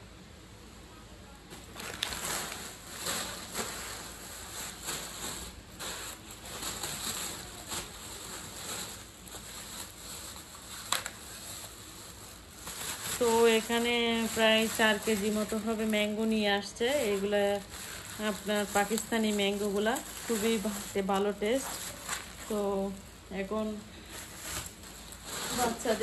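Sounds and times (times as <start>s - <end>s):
plastic bags rustling: 1.5s - 26.0s.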